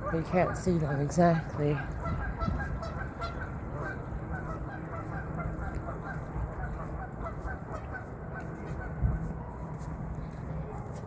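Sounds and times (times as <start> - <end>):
waterfowl calling: 0.0 - 8.9.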